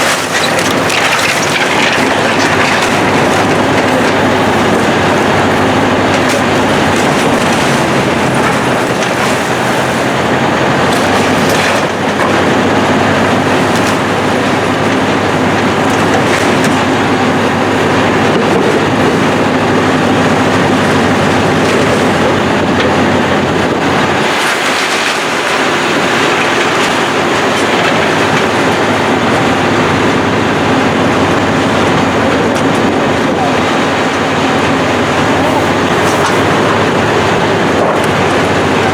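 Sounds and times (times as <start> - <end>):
debris crunching and clattering: 0.0 - 38.9
demolition machine engine drone: 0.0 - 38.9.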